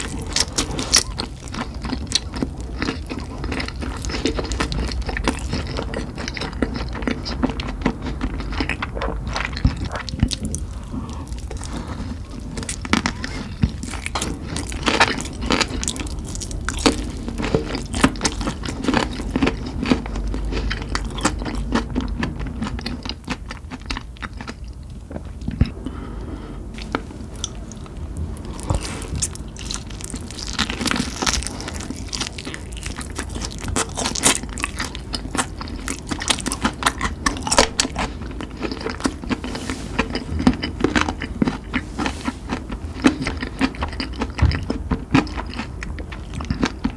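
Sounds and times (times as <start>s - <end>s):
crunchy chewing and biting: 0.0s - 26.2s, 26.8s - 46.9s.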